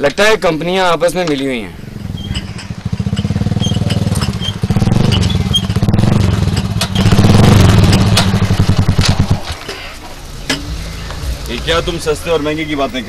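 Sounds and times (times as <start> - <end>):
dirt bike engine running: 1.8 - 13.0.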